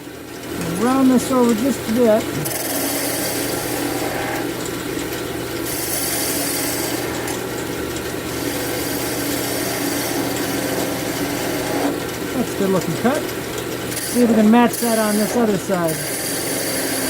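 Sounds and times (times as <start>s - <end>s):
wood lathe motor hum: 0.0s - 17.0s
turning tool scraping wood: 0.6s - 17.0s.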